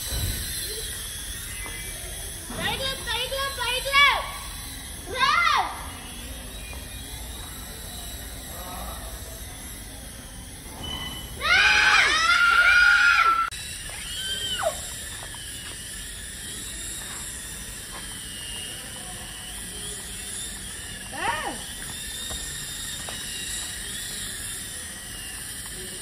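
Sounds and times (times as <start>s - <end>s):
high motor whine: 0.0s - 26.0s
toy helicopter rotors whirring: 0.0s - 26.0s.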